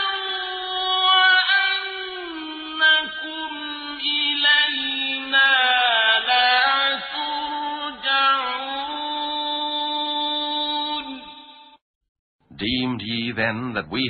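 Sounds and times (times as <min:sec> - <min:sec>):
person chanting recitation: 0:00.0 - 0:11.4, 0:12.5 - 0:14.0.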